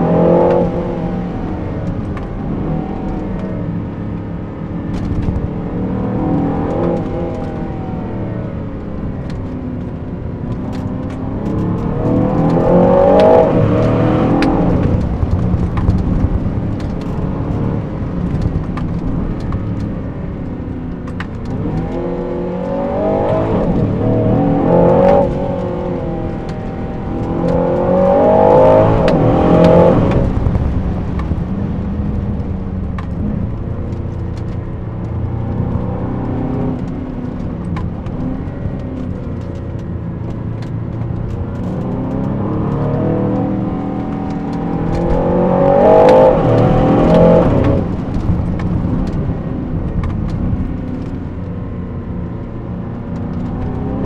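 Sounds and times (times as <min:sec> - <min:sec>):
car engine accelerating hard: 0:00.0 - 0:54.0.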